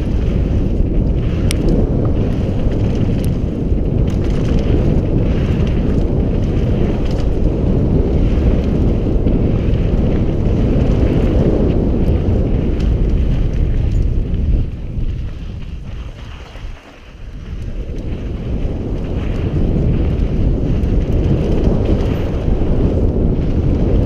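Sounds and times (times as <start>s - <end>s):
bike clicks and rattles: 0.0s - 24.0s
tyres rumbling over dirt: 0.0s - 24.0s
wind buffeting microphone: 0.0s - 24.0s.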